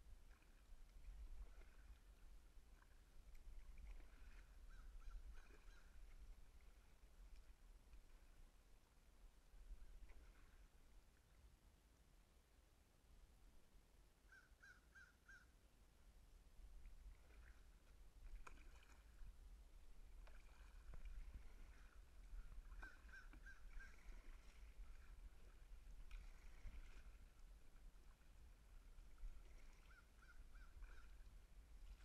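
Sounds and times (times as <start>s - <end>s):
soft knocks of kayak paddling: 0.0s - 11.3s, 16.6s - 32.0s.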